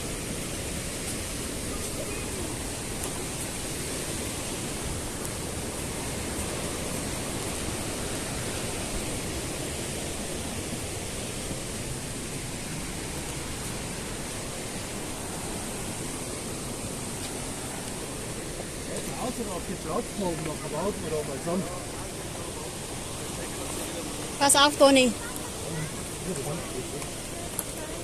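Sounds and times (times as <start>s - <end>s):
rushing water torrent: 0.0s - 28.0s.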